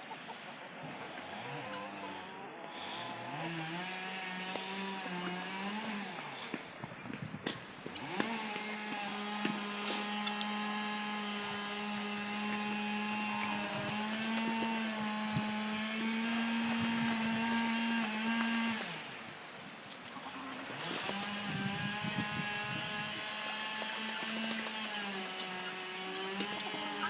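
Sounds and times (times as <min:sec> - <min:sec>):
small motor whining: 0:00.6 - 0:19.4, 0:20.6 - 0:27.0.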